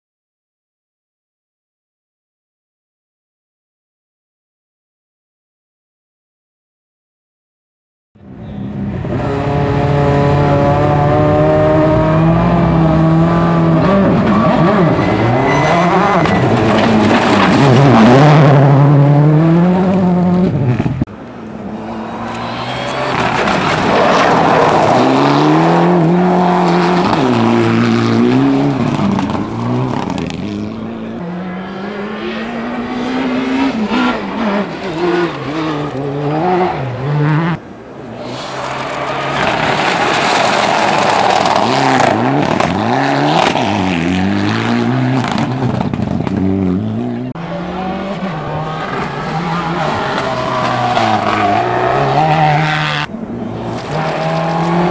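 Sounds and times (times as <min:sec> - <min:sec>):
rally car engines revving: 0:08.3 - 0:54.9.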